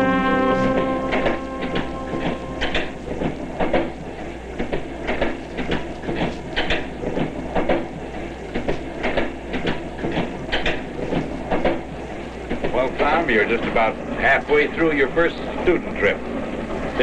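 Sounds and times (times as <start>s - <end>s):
railroad car rumble: 0.0s - 17.0s
wheels clicking over rail joints: 0.7s - 17.0s.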